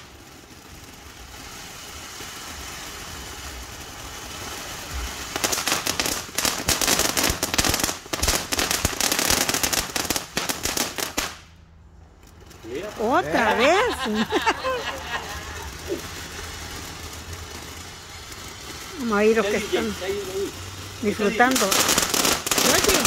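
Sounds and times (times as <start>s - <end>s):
firework dense crackling: 0.0s - 23.0s
firework sparks hissing: 0.0s - 23.0s.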